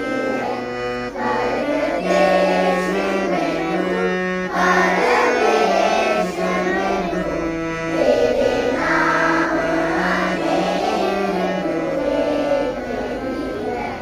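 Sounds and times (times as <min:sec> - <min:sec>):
long held low notes: 0:00.0 - 0:14.0
voices singing: 0:00.0 - 0:14.0.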